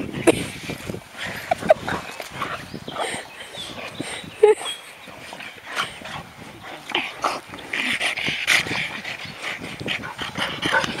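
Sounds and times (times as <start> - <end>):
dogs vocalising during play: 1.2 - 11.0.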